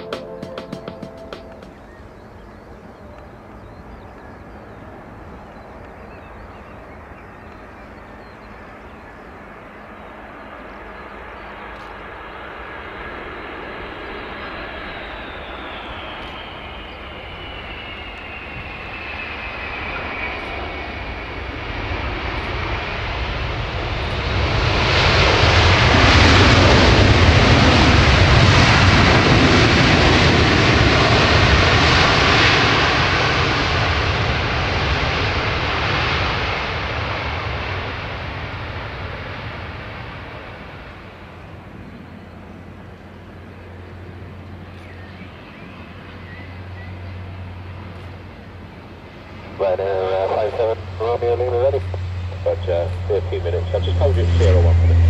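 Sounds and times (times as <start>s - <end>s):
aircraft engines passing: 0.0s - 55.0s.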